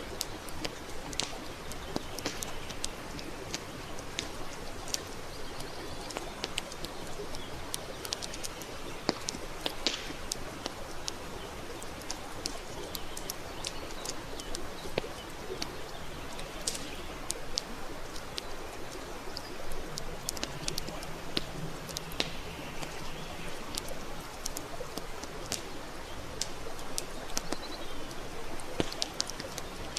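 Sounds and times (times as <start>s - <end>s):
campfire crackling: 0.0s - 29.9s.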